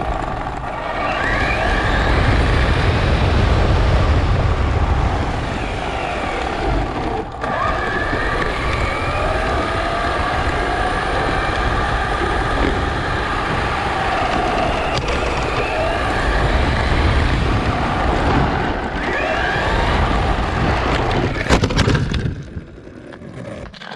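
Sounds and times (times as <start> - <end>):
electric motor whining: 0.0 - 21.8
rumble of tyres: 0.0 - 23.9
wind on camera: 0.0 - 23.9.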